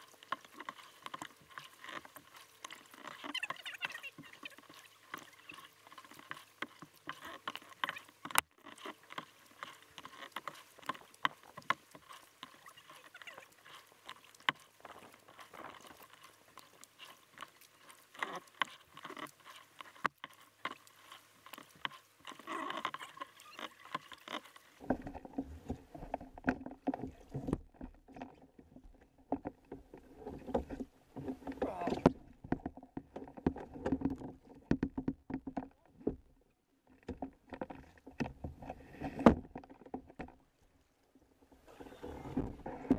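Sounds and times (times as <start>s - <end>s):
water lapping against kayak hull: 0.0s - 42.9s.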